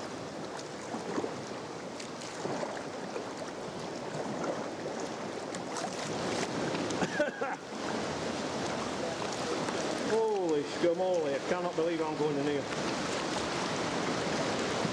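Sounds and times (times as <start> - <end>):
waves splashing against rocks: 0.0 - 14.9.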